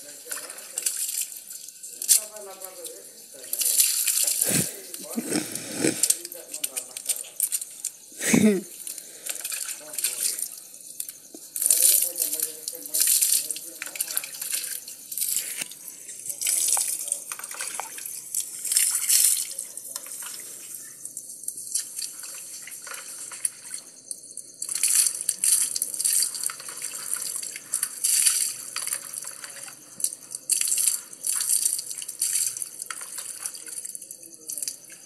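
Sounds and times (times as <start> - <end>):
water splashing and pouring: 0.0 - 7.8, 8.4 - 20.9, 21.6 - 23.8, 24.6 - 34.9.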